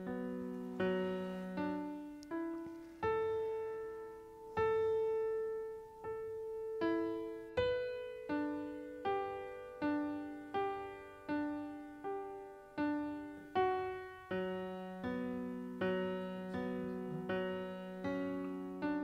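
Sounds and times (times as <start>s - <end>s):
slow gentle piano: 0.0s - 19.0s.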